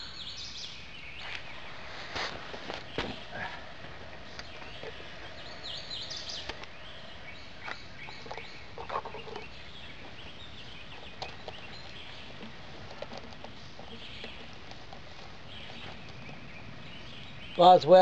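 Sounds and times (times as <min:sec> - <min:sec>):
steady background hiss: 0:00.0 - 0:18.0
woodland birds chirping: 0:00.0 - 0:18.0.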